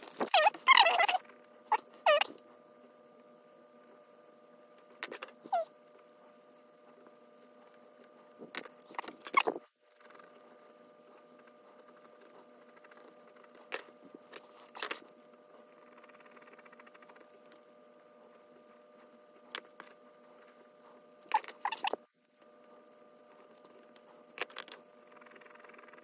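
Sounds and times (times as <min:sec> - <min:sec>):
faint steady background: 0:00.0 - 0:26.0.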